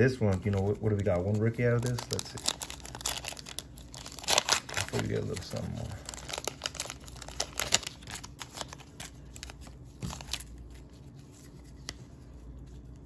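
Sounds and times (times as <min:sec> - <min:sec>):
cards rustling: 0:00.0 - 0:13.0
foil pack crackling: 0:00.2 - 0:11.0.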